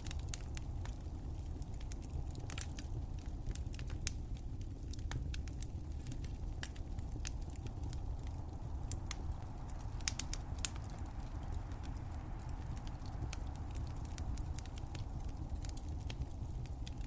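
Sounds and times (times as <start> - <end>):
fire crackling and popping: 0.0 - 17.0
low steady fire rumble: 0.0 - 17.0.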